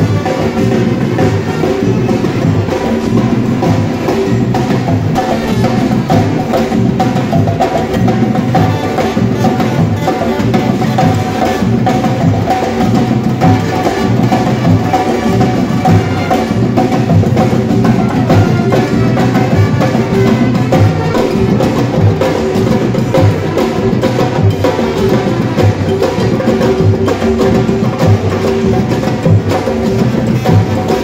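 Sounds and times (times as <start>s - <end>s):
drum ensemble playing rhythm: 0.0s - 31.0s.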